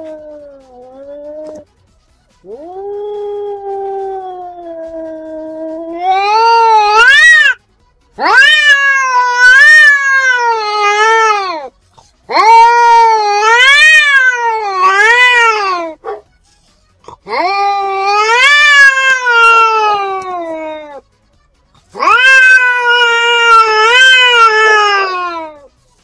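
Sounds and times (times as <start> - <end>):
cat yowling: 0.0 - 1.6, 2.4 - 7.6, 8.2 - 11.7, 12.3 - 16.2, 17.2 - 21.0, 21.9 - 25.7.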